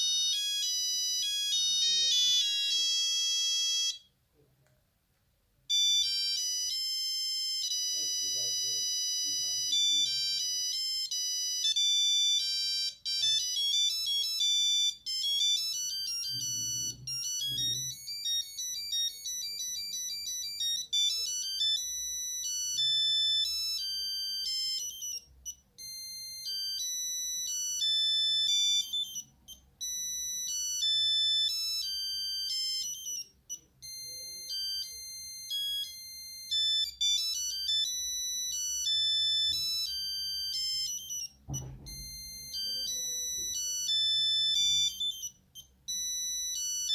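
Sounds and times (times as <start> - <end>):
monophonic phone ringtone: 0.0 - 4.2, 5.7 - 46.9.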